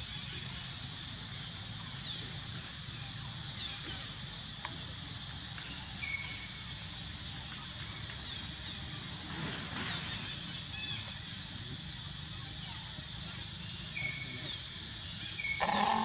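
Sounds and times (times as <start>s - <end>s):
high hiss: 0.0s - 16.0s.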